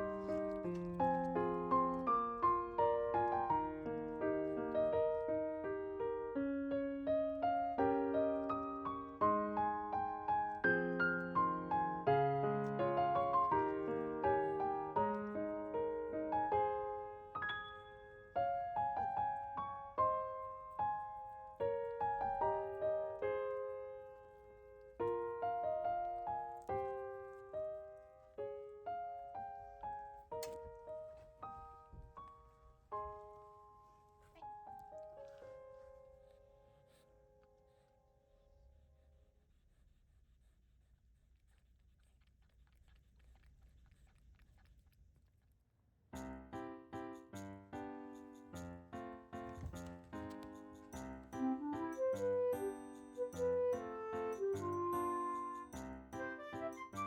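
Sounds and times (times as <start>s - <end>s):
gentle piano music: 0.0s - 37.5s, 46.2s - 57.0s.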